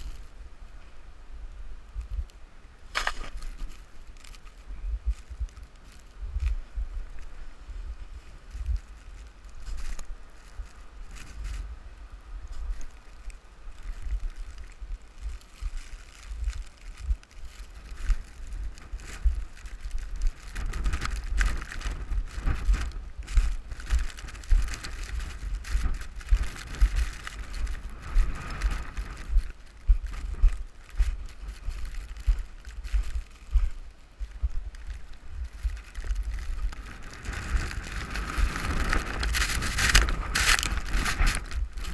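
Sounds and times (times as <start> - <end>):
blizzard wind buffeting microphone: 0.0 - 41.9.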